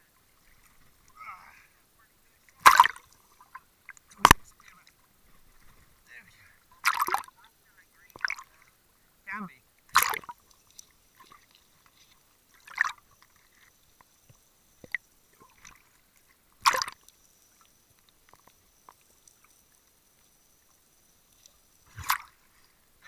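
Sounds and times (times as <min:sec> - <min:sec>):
faint underwater clicks: 0:00.1 - 0:09.0, 0:09.7 - 0:22.8
underwater water rushes: 0:00.2 - 0:08.8, 0:09.8 - 0:22.9.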